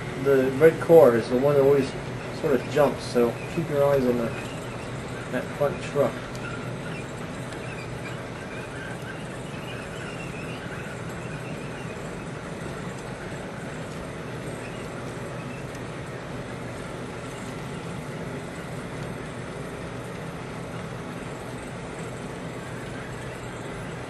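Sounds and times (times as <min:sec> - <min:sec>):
model train wheels rumbling: 0:00.0 - 0:24.0.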